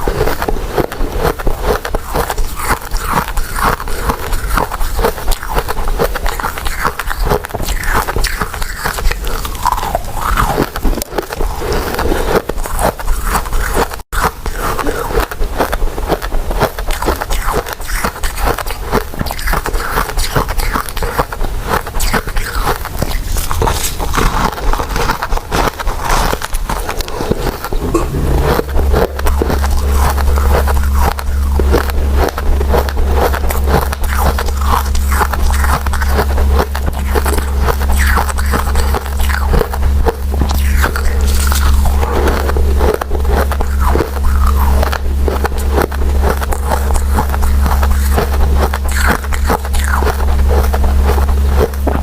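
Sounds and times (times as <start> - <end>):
sticky chewing mouth sounds: 0.0 - 52.0.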